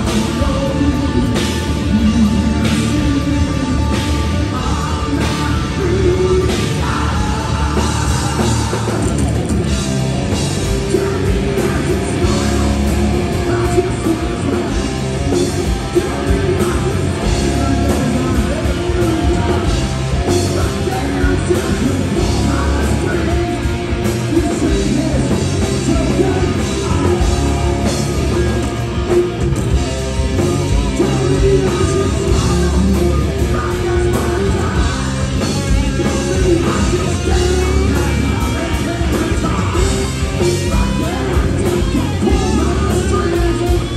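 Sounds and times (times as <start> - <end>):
person singing into microphone: 0.0 - 9.6, 10.6 - 29.4, 30.7 - 43.9
drum kit: 0.0 - 43.9
electric guitars: 0.0 - 43.9.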